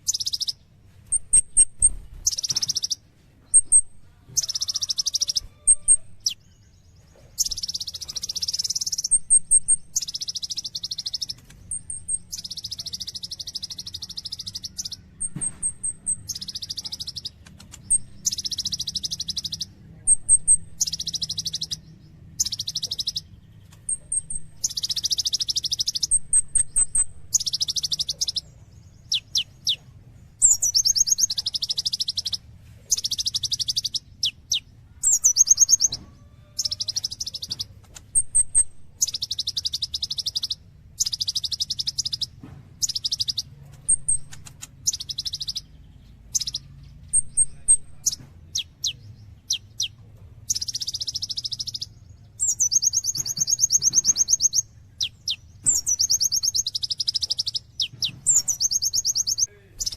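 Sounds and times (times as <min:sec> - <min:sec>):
sunbird singing trilled phrases: 0:00.0 - 0:29.8, 0:30.4 - 0:36.0, 0:36.6 - 0:59.9.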